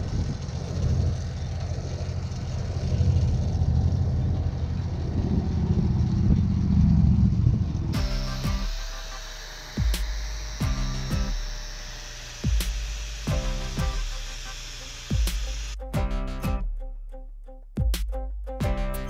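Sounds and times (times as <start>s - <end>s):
engine idling: 0.0s - 16.5s.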